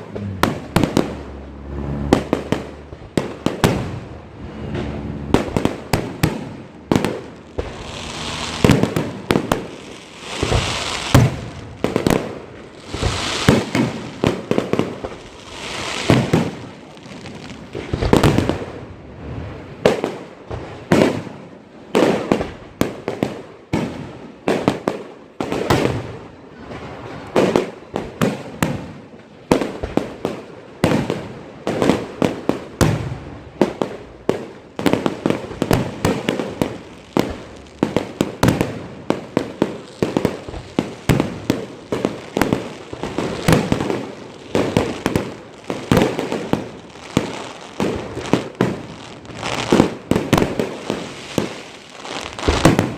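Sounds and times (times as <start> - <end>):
fireworks banging: 0.0 - 52.9
fireworks crackling: 0.0 - 52.9.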